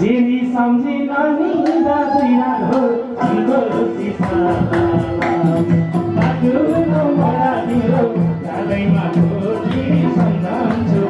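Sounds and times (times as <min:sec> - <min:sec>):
person singing through a pa: 0:00.0 - 0:11.0.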